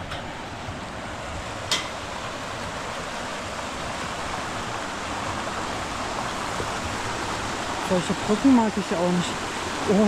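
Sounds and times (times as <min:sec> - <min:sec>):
mountain river rushing: 0:00.0 - 0:10.0.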